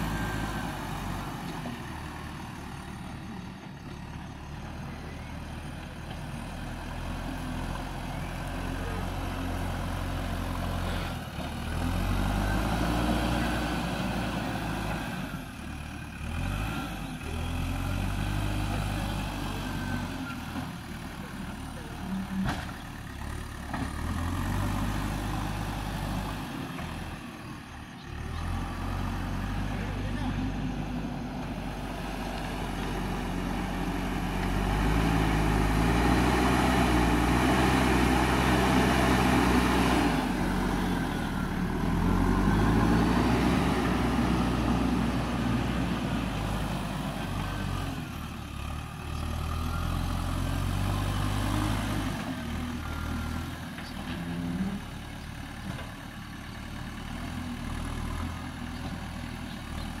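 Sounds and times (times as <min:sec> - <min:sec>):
diesel engine revving under load: 0:00.0 - 1:00.0.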